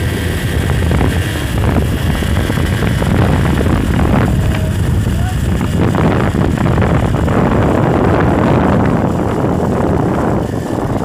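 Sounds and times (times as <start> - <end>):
vehicle rumbling on dirt track: 0.0 - 11.0
wind buffeting microphone: 0.0 - 11.0.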